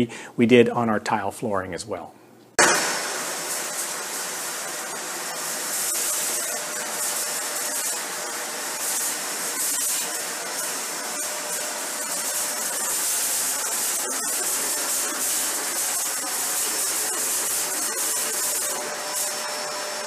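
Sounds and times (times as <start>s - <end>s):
vacuum cleaner running: 2.6s - 20.0s.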